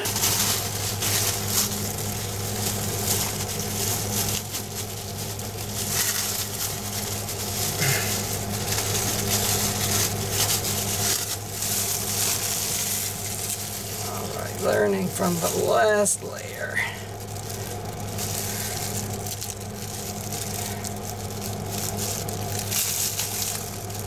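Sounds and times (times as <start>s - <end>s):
plastic glove crinkling: 0.0s - 24.0s
steady low hum: 0.0s - 24.0s.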